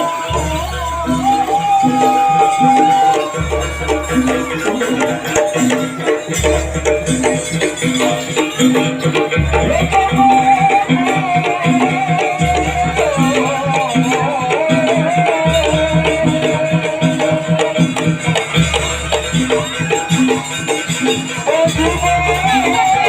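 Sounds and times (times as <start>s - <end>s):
beaten percussion and rattles: 0.0s - 23.0s
wavering high melody: 0.0s - 23.0s.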